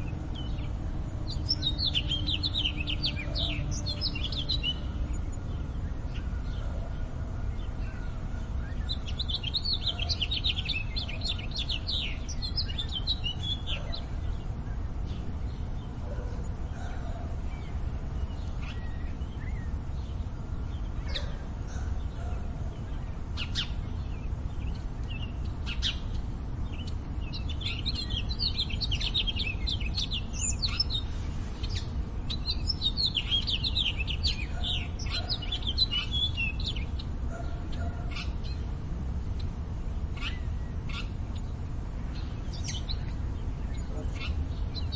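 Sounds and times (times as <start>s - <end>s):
low urban rumble: 0.0s - 44.9s
songbirds chirping: 0.0s - 44.9s.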